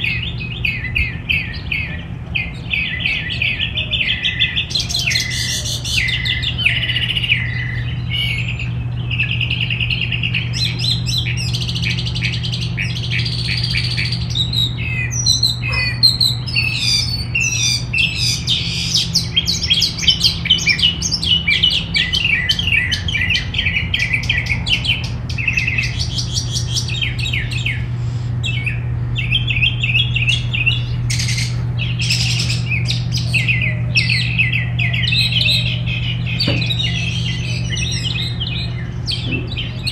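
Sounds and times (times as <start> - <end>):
songbirds chirping and trilling: 0.0 - 39.9
steady low hum: 0.0 - 39.9.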